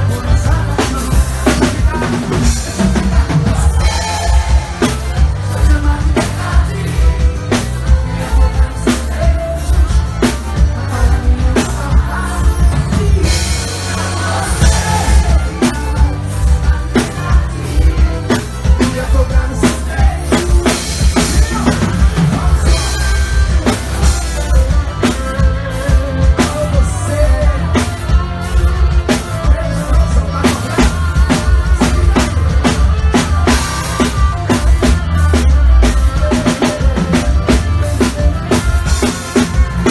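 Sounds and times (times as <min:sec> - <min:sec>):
live band music: 0:00.0 - 0:39.9.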